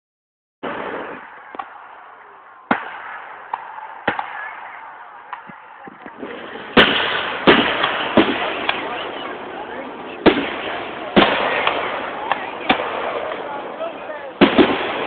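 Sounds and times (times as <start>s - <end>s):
fireworks banging: 0.6s - 15.0s.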